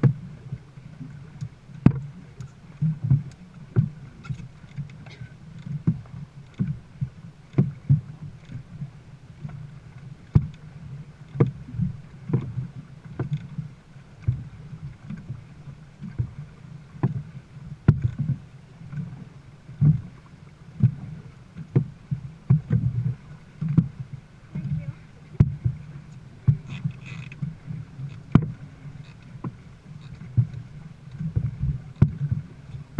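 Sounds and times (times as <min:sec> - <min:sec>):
paddle strokes knocking: 0:00.0 - 0:32.9
water rumbling against hull: 0:00.0 - 0:32.9.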